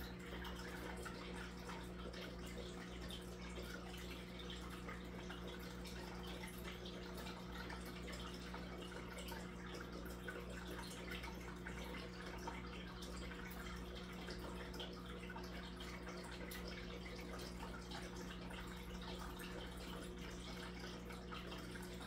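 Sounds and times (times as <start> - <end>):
aquarium water trickling and bubbling: 0.0 - 22.0
pump humming: 0.0 - 22.0
water drips and splashes: 0.0 - 22.0.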